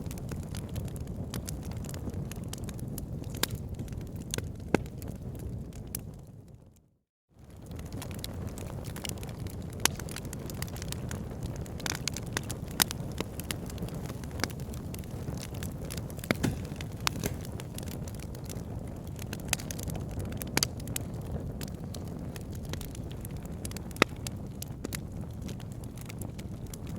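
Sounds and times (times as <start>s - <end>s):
campfire crackling and popping: 0.0s - 6.3s, 7.4s - 26.9s
low fire rumble: 0.0s - 6.8s, 7.4s - 26.9s.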